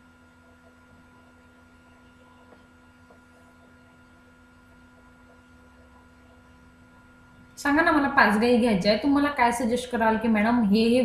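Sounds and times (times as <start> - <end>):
electrical hum with whines: 0.0 - 11.0.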